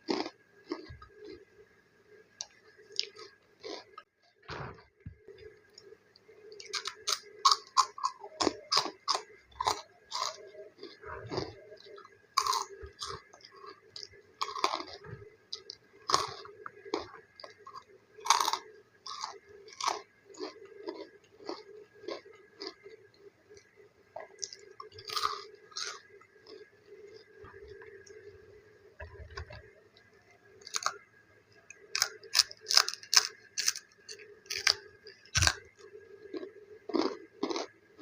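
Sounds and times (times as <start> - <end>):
chewing crispy snack: 0.0 - 1.5, 2.4 - 4.1, 5.4 - 28.3, 29.1 - 31.0, 31.7 - 38.0.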